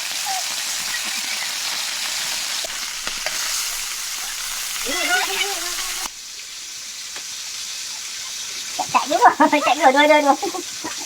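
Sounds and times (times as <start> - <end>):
steady hissing noise: 0.0 - 11.0.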